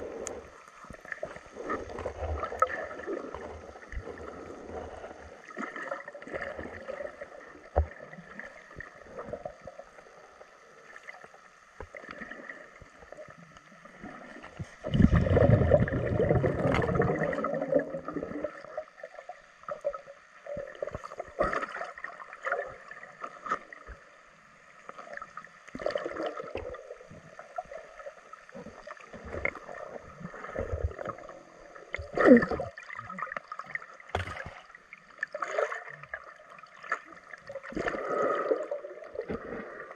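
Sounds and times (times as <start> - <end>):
underwater rumbling: 0.0 - 10.4, 11.9 - 24.1, 24.9 - 39.9
underwater water movement: 0.0 - 39.9.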